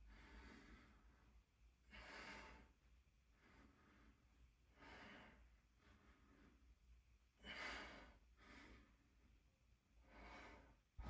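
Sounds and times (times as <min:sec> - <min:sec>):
man breathing hard: 0:00.0 - 0:06.6, 0:07.4 - 0:09.1, 0:10.0 - 0:11.0.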